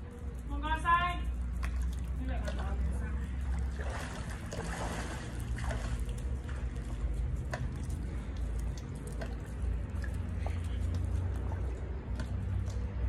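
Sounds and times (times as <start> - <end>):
steady low rumble: 0.0 - 13.0
pool water lapping and splashing: 0.1 - 13.0
water drips: 0.1 - 13.0.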